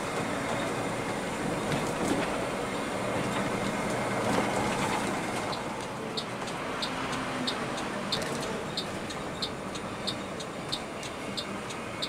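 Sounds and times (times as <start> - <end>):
diesel bus engines rumbling: 0.0 - 12.0.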